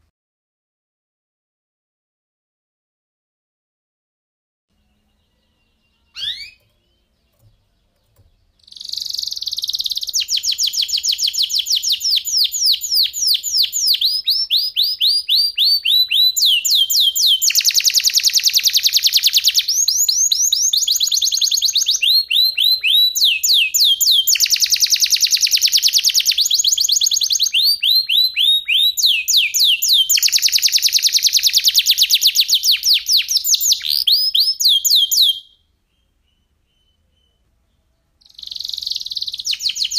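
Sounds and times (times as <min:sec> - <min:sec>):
canary singing trills: 0:04.7 - 0:39.9.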